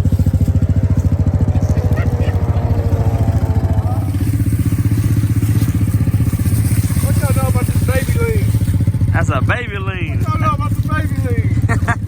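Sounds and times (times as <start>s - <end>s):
atv engine under throttle: 0.0s - 12.0s.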